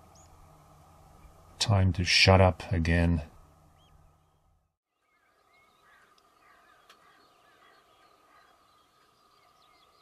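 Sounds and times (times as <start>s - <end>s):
birds chirping and trilling: 0.0s - 1.5s, 3.4s - 10.0s.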